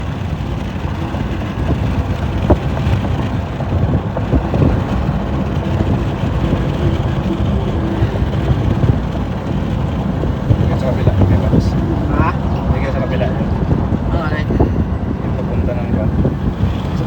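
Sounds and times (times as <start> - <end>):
road vehicle rumble: 0.0 - 17.0
wind buffeting microphone: 0.0 - 17.0.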